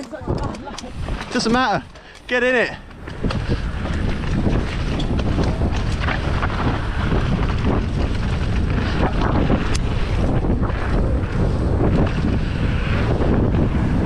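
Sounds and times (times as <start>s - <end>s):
bike knocks and rattles: 0.0s - 14.0s
bike rumbling on rough trail: 0.0s - 14.0s
wind rushing over microphone: 0.0s - 14.0s.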